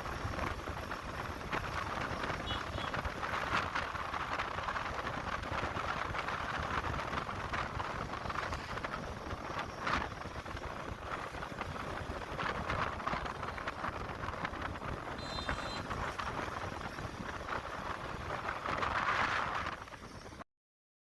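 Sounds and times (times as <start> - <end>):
motorcycle engine riding: 0.0 - 20.4
wind rushing over microphone: 0.0 - 20.4.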